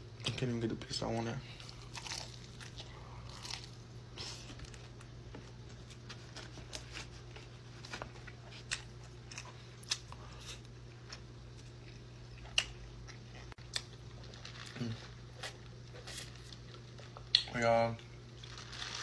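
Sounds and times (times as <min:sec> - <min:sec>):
steady low hum: 0:00.0 - 0:19.0
chewing crispy chicken: 0:01.6 - 0:05.0, 0:06.6 - 0:19.0.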